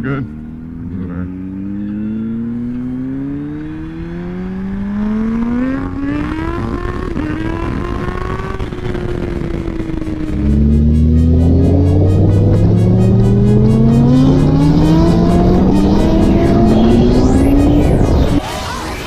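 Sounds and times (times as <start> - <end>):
wind and road noise: 0.0 - 18.7
motorcycle engine accelerating: 0.0 - 19.0.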